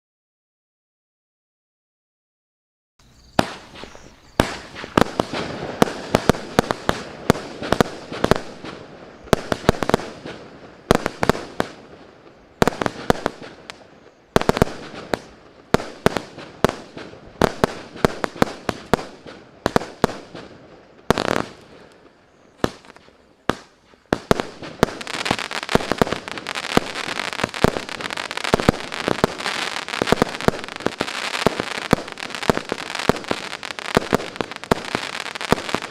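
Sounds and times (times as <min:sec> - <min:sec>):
fireworks bangs and crackling: 0:03.1 - 0:35.9.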